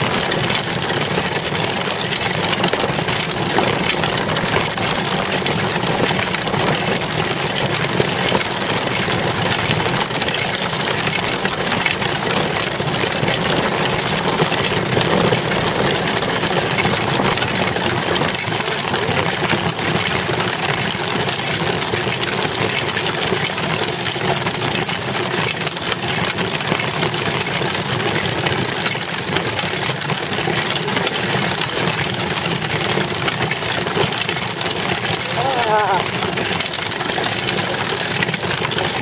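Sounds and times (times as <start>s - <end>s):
bicycle tyre rolling on asphalt: 0.0s - 39.0s.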